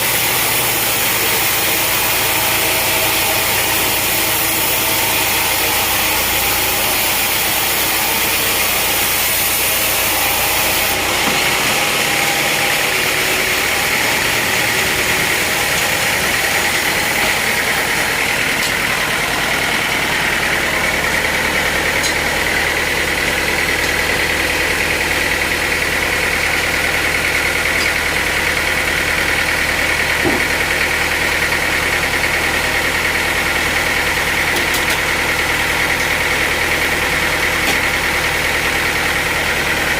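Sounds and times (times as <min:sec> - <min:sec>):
engine drone: 0:00.0 - 0:39.9
sawmill machinery running: 0:00.0 - 0:39.9.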